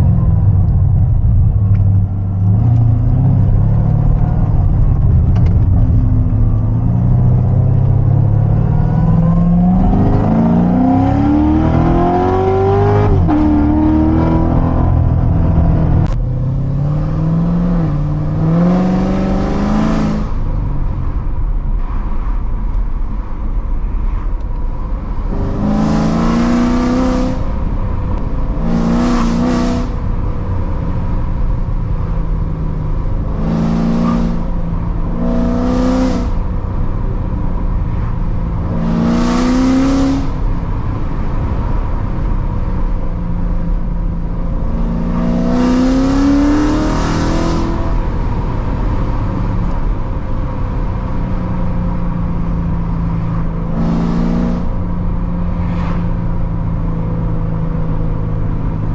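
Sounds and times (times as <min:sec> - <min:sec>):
sports car engine revving: 0:01.3 - 0:20.5, 0:25.2 - 0:58.9.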